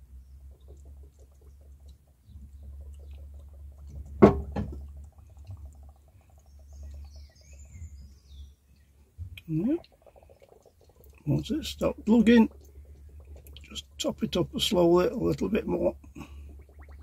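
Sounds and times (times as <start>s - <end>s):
coolant glugging and gurgling: 0.0s - 17.0s.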